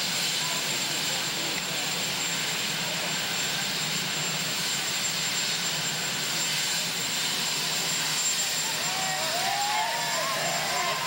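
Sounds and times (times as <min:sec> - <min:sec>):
helicopter turbine idling with whine: 0:00.0 - 0:11.0.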